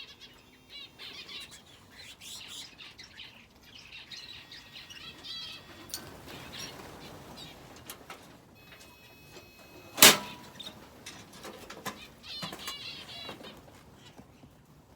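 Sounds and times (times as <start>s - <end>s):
finches and canary chirping: 0.0s - 14.8s.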